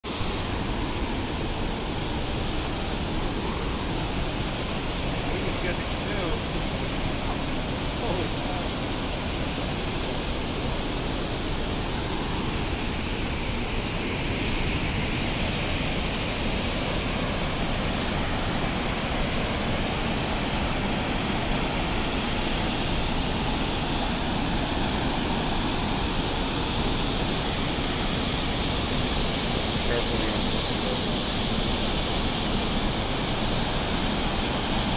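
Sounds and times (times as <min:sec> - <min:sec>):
water rushing over rapids: 0:00.1 - 0:34.9.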